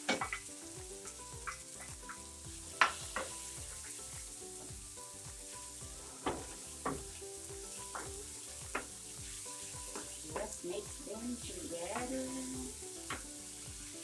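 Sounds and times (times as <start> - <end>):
vegetables sizzling in a frying pan: 0.0 - 14.0.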